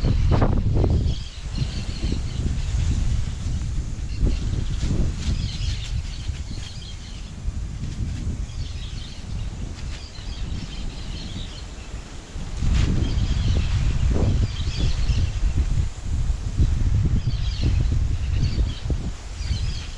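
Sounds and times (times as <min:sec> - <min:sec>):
wind rumble on microphone: 0:00.0 - 0:19.9.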